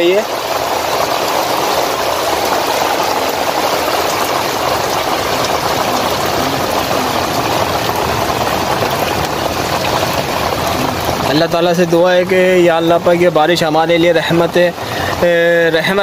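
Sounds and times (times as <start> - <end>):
heavy rain splashing into water: 0.0 - 16.0.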